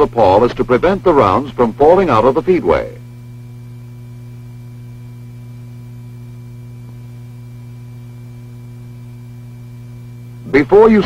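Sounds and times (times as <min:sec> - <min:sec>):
electrical hum: 0:00.0 - 0:11.0
faint high whine: 0:00.0 - 0:11.0.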